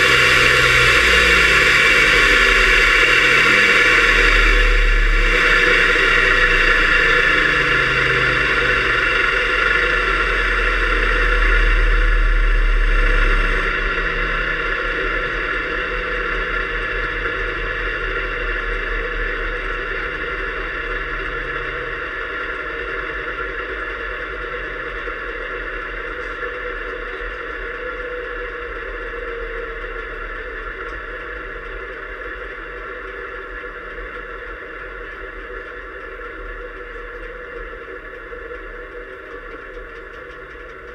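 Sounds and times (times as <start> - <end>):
muffled jet engine whine: 0.0 - 40.9.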